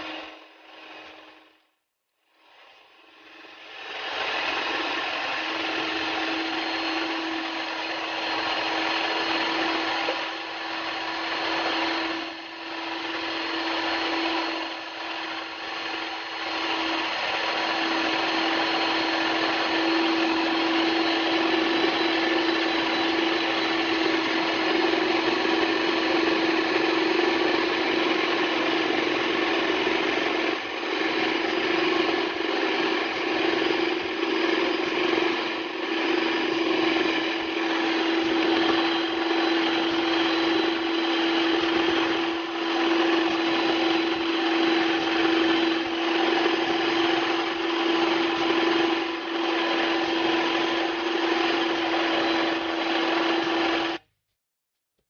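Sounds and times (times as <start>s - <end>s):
electric hand mixer whirring: 0.0s - 54.1s.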